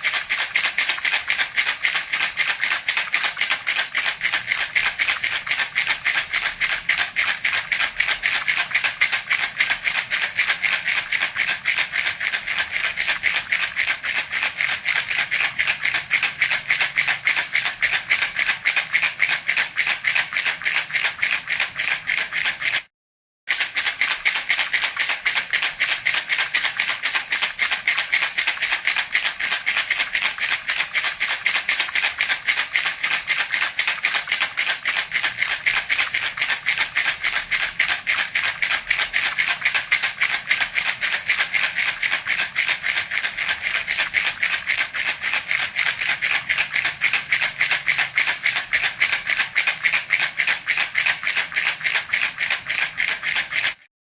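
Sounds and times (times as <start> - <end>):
baby's rattle shaken: 0.0 - 22.9, 23.5 - 53.9.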